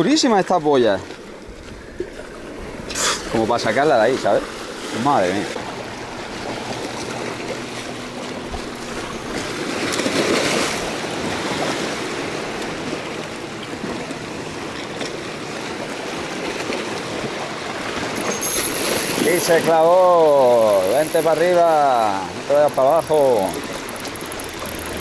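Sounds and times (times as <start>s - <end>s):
sea waves washing on shore: 0.0s - 25.0s.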